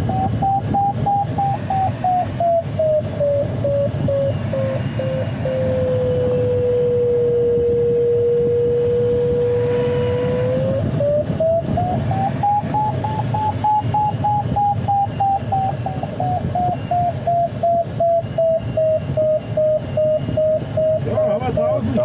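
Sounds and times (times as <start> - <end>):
airflow rush in cockpit: 0.0 - 22.0
steady low electronic tone: 0.0 - 22.0.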